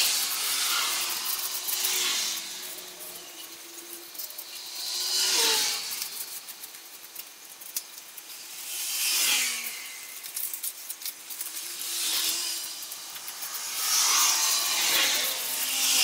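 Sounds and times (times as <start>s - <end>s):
sandpaper rubbing metal: 0.0s - 16.0s.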